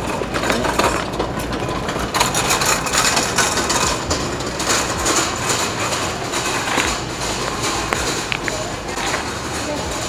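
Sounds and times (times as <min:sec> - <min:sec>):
shopping cart rattling: 0:00.0 - 0:10.0.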